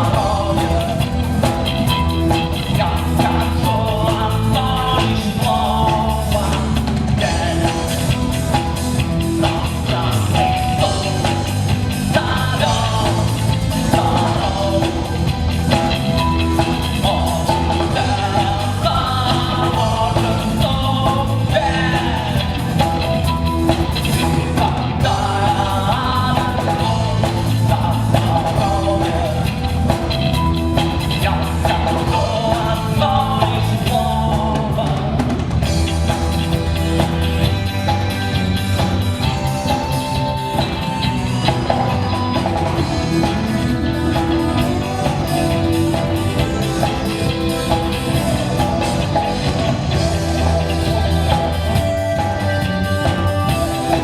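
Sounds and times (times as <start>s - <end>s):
drum kit: 0.0s - 54.0s
person singing: 0.0s - 54.0s
rock band playing: 0.0s - 54.0s.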